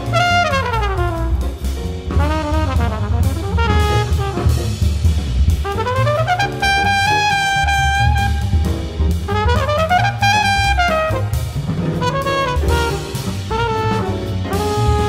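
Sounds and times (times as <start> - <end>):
jazz music with brass and drums: 0.0 - 15.0.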